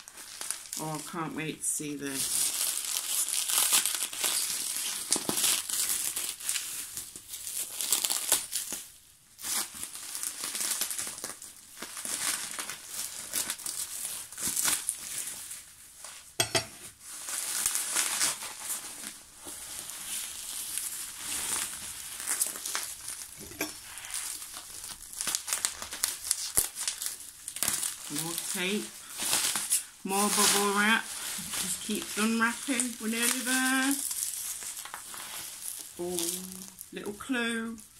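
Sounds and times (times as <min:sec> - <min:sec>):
plastic packaging crinkling: 0:00.0 - 0:37.9.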